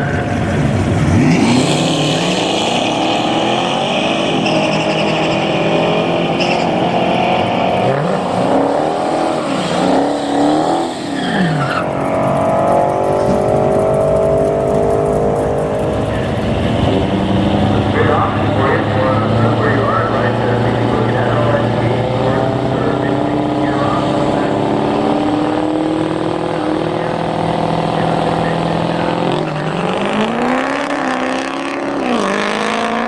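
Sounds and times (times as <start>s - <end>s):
car engine revving: 0.0s - 33.0s
tires squealing: 0.0s - 33.0s.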